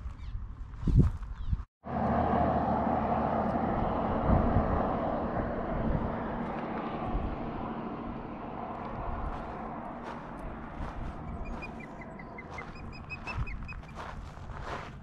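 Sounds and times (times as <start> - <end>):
passing motor vehicle engine hum: 1.8 - 15.0.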